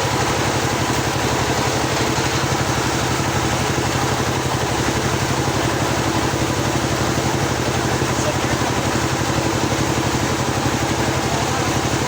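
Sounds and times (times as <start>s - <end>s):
sawmill engine pulsing: 0.0s - 12.0s.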